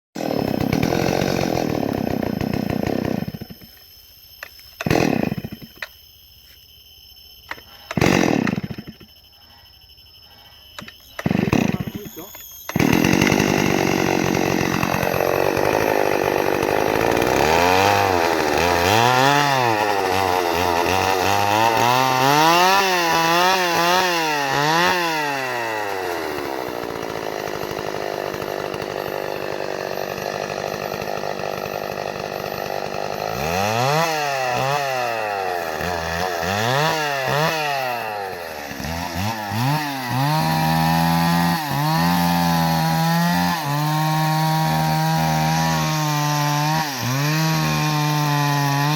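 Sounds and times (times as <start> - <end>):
chainsaw engine revving: 0.2 - 3.7, 4.8 - 5.8, 7.9 - 9.0, 11.2 - 48.9.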